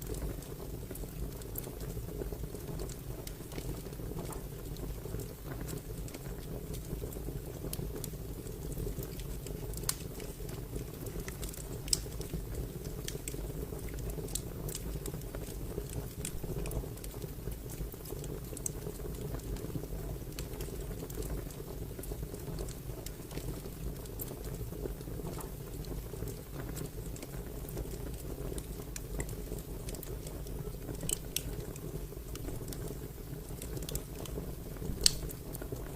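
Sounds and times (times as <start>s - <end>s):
fire crackling and popping: 0.0s - 35.9s
low rumble of burning: 0.0s - 35.9s.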